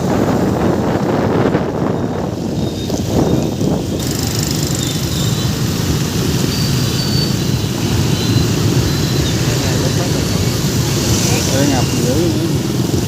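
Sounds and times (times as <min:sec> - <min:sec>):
vehicle road noise rumble: 0:00.0 - 0:13.0.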